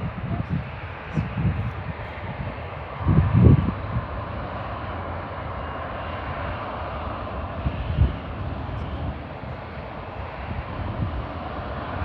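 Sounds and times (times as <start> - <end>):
jet engine rushing hum: 0.0 - 12.0.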